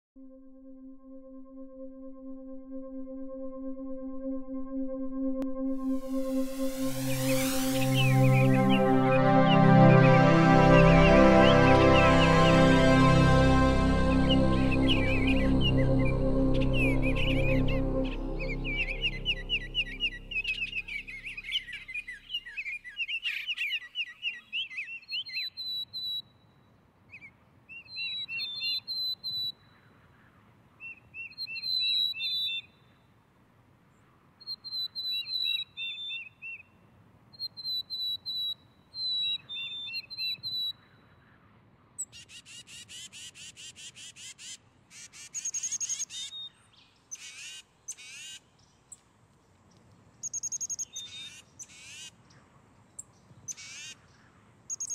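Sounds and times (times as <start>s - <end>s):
songbirds chirping: 6.6s - 33.2s, 33.9s - 54.9s.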